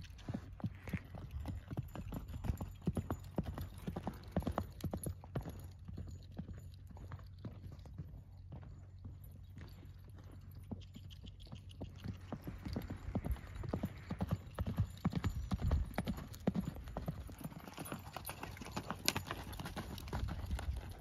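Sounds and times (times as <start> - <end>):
horse hoofbeats on dirt: 0.0 - 21.0.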